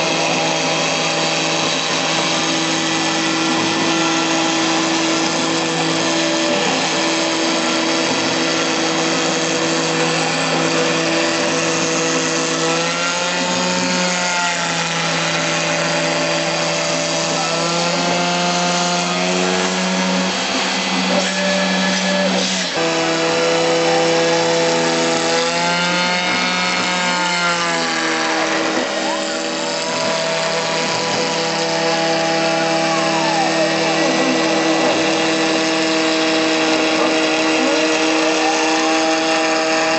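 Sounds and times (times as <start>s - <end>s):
machine axes whine rising and falling: 0.0s - 39.9s
router spindle whine and cutting hiss: 0.0s - 39.9s.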